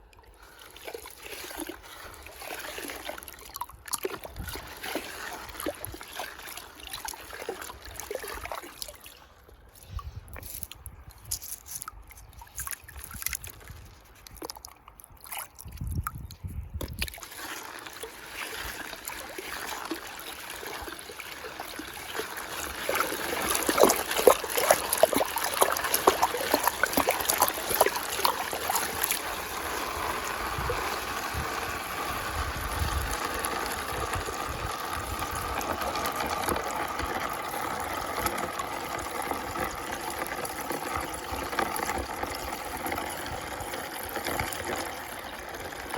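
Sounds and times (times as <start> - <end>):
water gurgling down a whirlpool: 0.0 - 9.1, 17.1 - 45.9.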